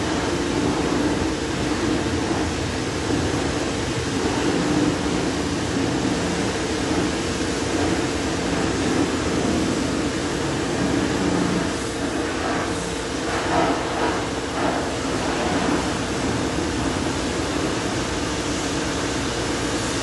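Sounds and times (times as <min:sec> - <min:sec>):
machinery droning with hiss: 0:00.0 - 0:20.0.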